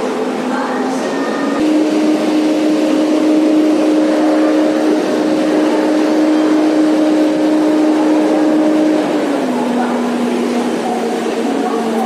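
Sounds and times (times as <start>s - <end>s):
droning hum: 0.0s - 12.0s
passenger train rushing: 0.0s - 12.0s.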